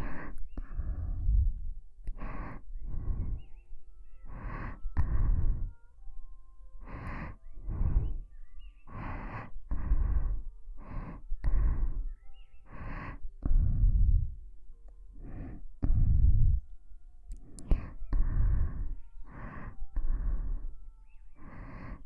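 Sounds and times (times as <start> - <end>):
close breathing into microphone: 0.0 - 6.1, 6.7 - 22.0.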